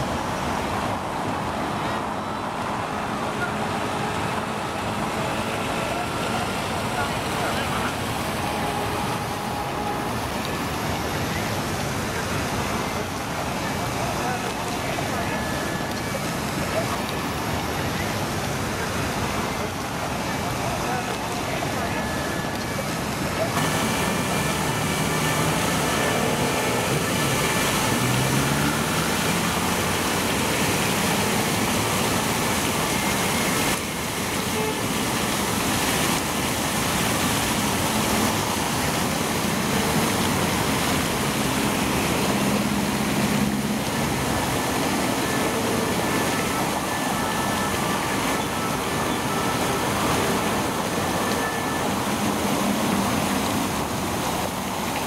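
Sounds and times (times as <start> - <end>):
fountain water splashing into basin: 0.0 - 55.0
road traffic: 0.0 - 55.0.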